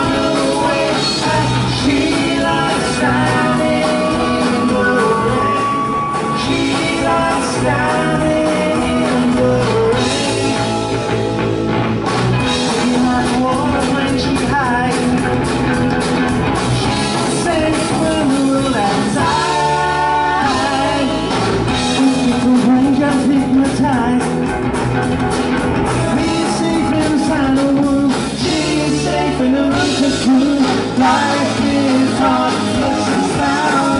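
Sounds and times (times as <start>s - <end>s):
man singing: 0.0s - 11.3s, 12.4s - 16.0s, 16.8s - 24.5s, 26.0s - 33.9s
live rock band playing: 0.0s - 33.9s.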